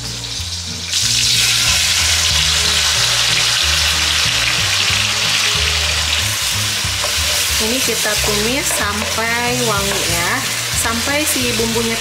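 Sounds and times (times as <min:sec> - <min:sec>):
onion paste sizzling in pan: 0:00.0 - 0:12.0.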